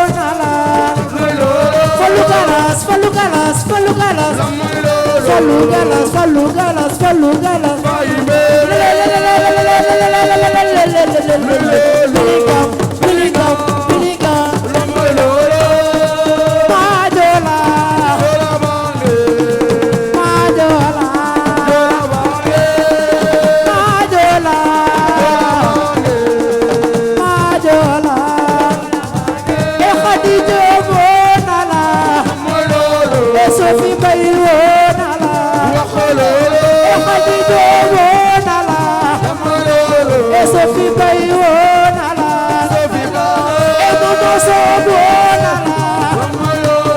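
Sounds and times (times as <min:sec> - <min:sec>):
continuous drumming: 0:00.0 - 0:46.9
person singing long notes: 0:00.0 - 0:46.9.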